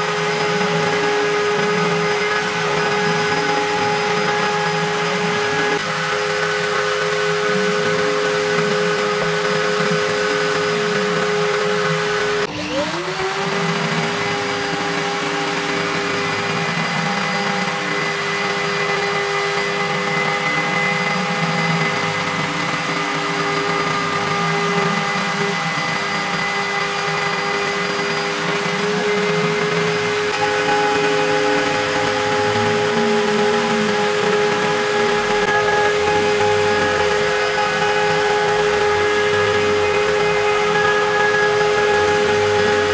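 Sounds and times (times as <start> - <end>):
spindle whining cutting metal: 0.0 - 42.9.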